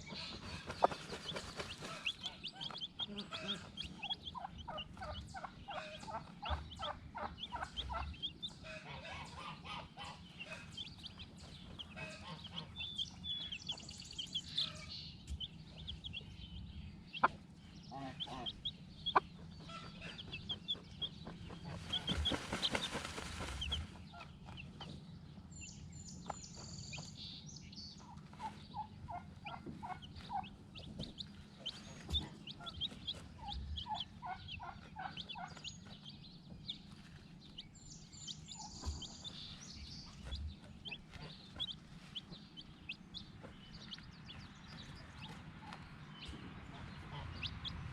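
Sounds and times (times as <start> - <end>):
chickens clucking: 0.0 - 47.9
steady low hum: 0.0 - 47.9.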